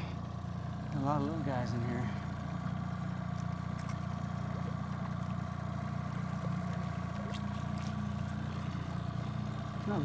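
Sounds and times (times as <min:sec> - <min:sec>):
outboard motor droning: 0:00.0 - 0:10.0.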